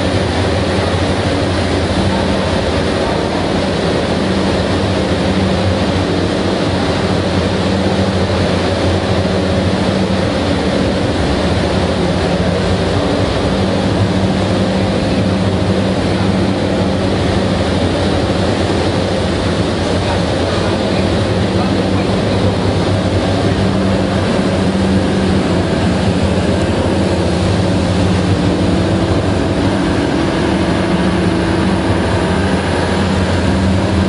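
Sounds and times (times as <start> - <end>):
large machinery humming: 0.0 - 34.0.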